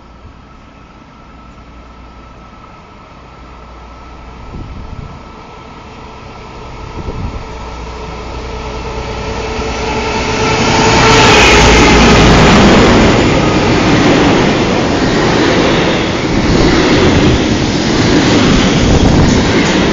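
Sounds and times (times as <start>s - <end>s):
freight locomotive passing: 0.0s - 19.9s.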